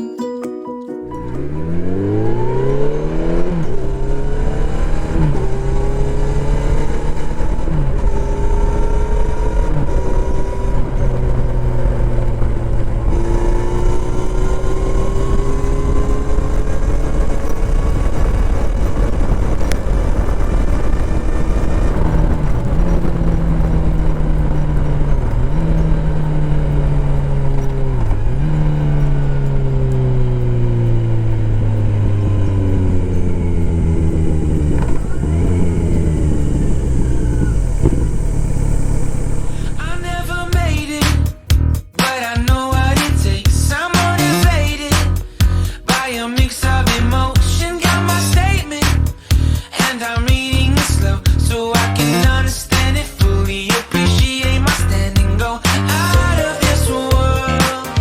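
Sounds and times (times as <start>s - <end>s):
motorcycle engine accelerating: 1.2s - 58.0s.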